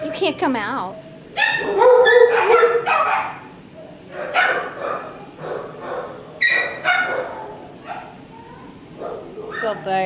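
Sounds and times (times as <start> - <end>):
dogs barking: 0.9 - 10.0.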